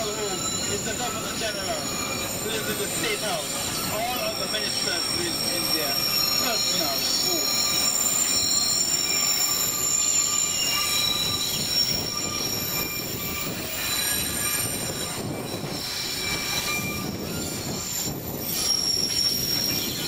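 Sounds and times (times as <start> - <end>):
train cars rumbling on track: 0.0 - 20.0
train wheels squealing on rails: 0.0 - 20.0.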